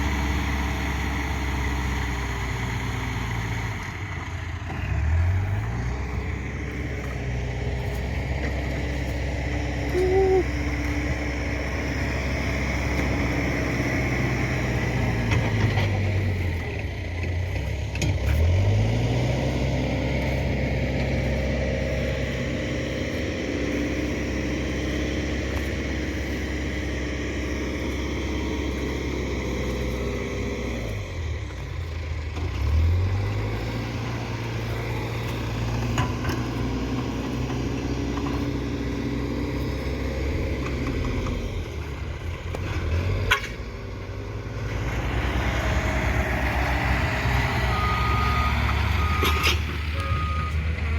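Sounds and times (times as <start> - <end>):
backhoe diesel engine revving: 0.0 - 50.9.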